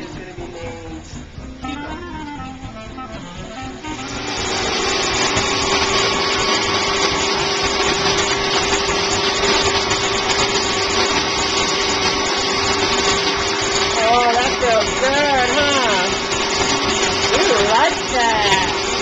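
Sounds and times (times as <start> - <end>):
hose sprayer hissing: 0.0 - 19.0.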